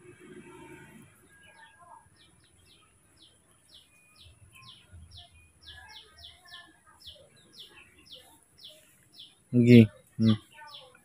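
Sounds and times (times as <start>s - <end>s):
small bird chirping: 0.1s - 11.0s.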